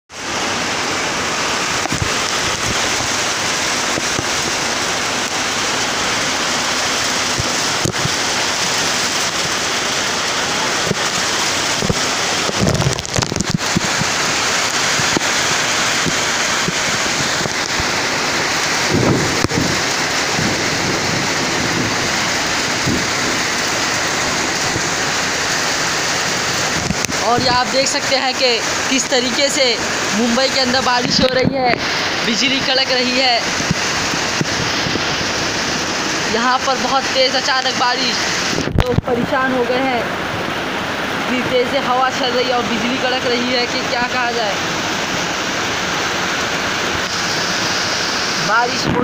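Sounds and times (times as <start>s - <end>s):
heavy rain hissing: 0.1s - 49.0s
wind gusts buffeting microphone: 0.3s - 44.1s.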